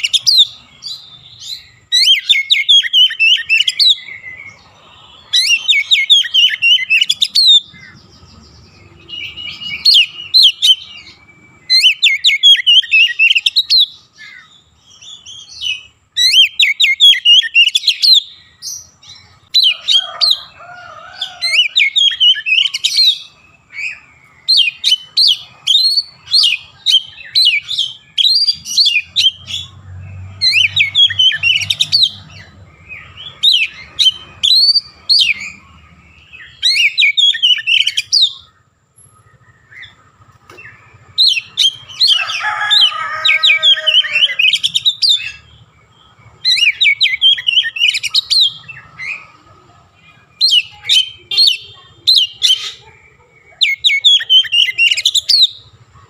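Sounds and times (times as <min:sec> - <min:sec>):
bird singing chirps and whistles: 0:00.0 - 0:20.4, 0:21.5 - 0:29.8, 0:30.4 - 0:49.3, 0:50.4 - 0:52.8, 0:53.6 - 0:55.6.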